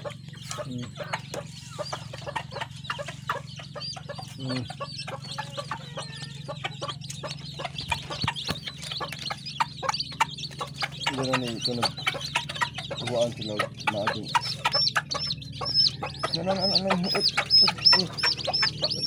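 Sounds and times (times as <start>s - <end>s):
chicks peeping: 0.0s - 19.0s
hen clucking: 0.0s - 19.0s.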